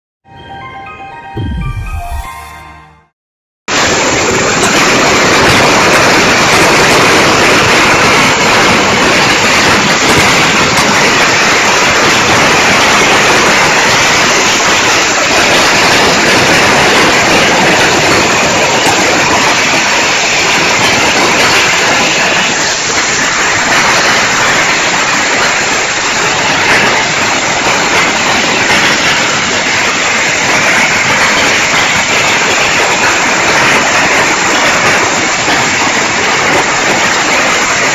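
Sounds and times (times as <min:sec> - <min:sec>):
firecrackers crackling: 0:03.7 - 0:37.9.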